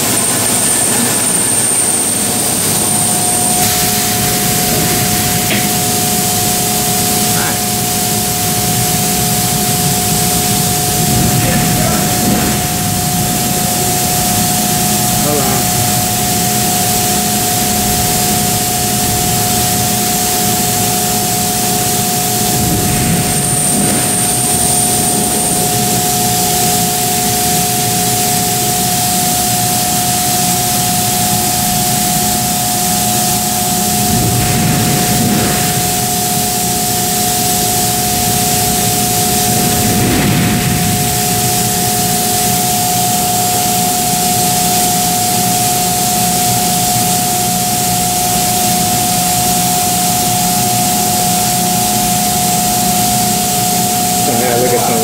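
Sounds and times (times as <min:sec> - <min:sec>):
laser cutter hissing and whining: 0:00.0 - 0:55.0.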